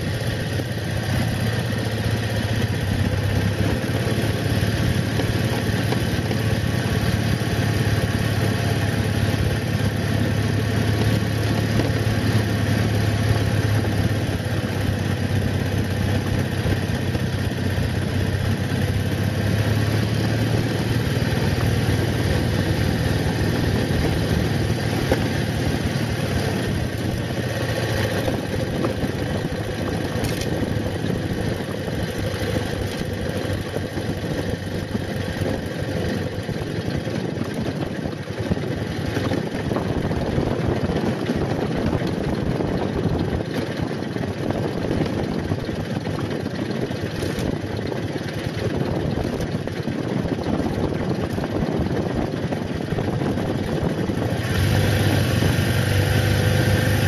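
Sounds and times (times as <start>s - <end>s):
motorcycle engine running: 0.0s - 57.0s
tyres on dirt road: 0.0s - 57.0s
wind noise: 0.0s - 57.0s.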